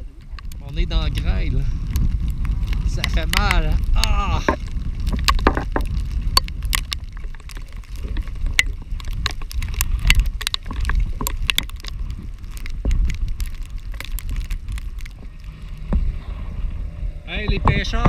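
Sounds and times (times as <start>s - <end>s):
waves slapping boat: 0.0s - 18.0s
wind buffeting microphone: 0.0s - 18.0s.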